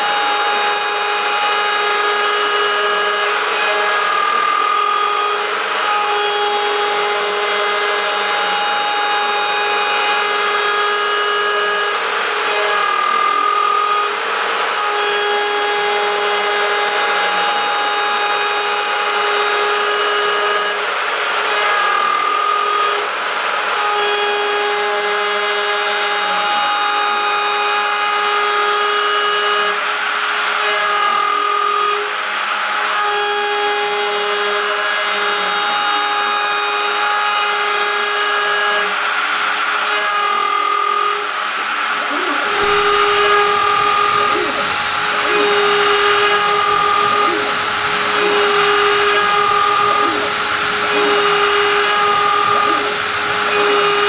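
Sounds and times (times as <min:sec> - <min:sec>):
cnc router machining metal: 0:00.0 - 0:54.0.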